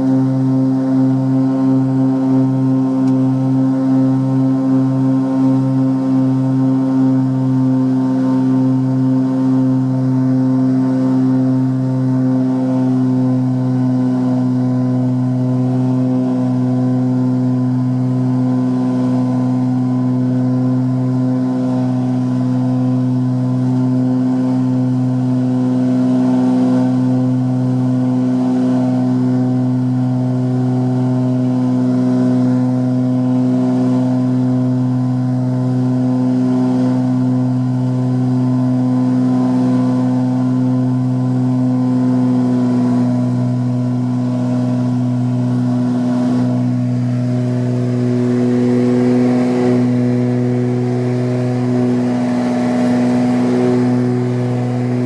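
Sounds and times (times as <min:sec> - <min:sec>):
propeller plane cabin drone: 0:00.0 - 0:55.0.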